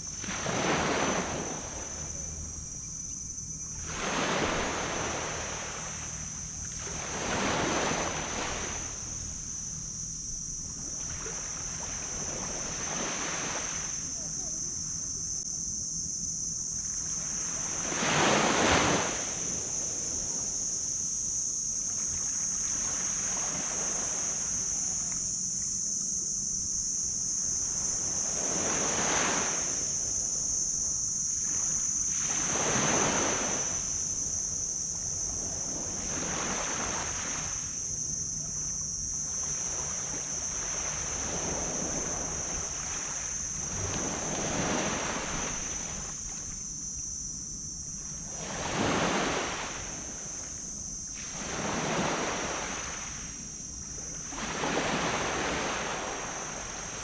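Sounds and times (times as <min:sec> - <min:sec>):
waves breaking on beach: 0:00.0 - 0:02.6, 0:03.7 - 0:14.2, 0:17.1 - 0:20.6, 0:22.0 - 0:24.8, 0:27.6 - 0:46.6, 0:48.1 - 0:57.0.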